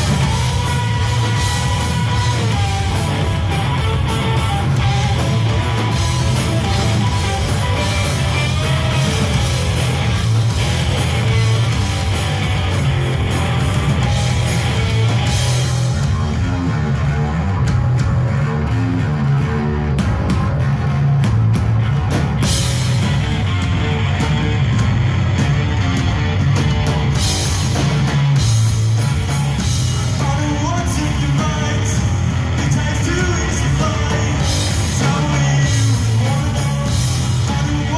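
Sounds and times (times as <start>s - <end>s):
bass guitar: 0.0s - 37.9s
distorted electric guitar: 0.0s - 37.9s
drum kit: 0.0s - 37.9s.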